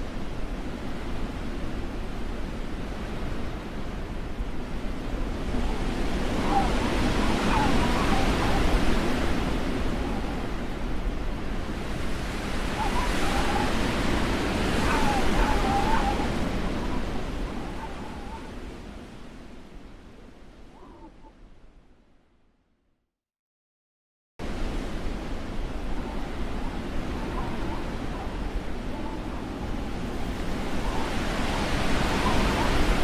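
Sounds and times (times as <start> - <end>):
blizzard wind howling: 0.0 - 22.2, 24.4 - 33.0.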